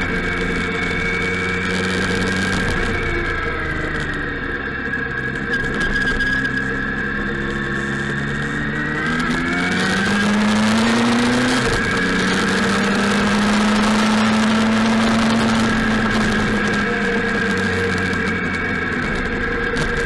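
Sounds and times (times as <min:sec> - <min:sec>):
motorcycle engine accelerating: 0:00.0 - 0:20.0
wind and tyres on wet road: 0:00.0 - 0:20.0.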